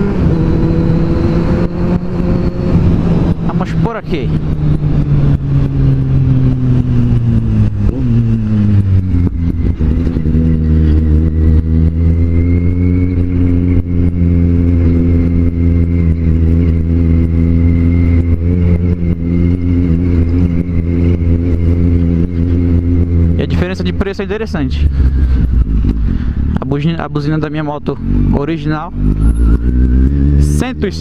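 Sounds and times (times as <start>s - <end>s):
motorcycle engine while riding: 0.0s - 31.0s.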